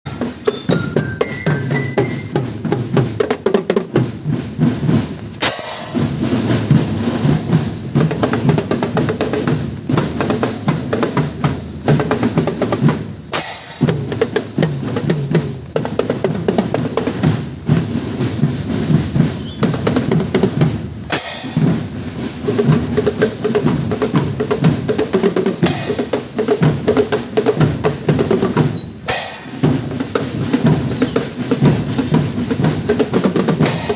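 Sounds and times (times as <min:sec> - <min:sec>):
marching drum band playing: 0:00.1 - 0:33.9.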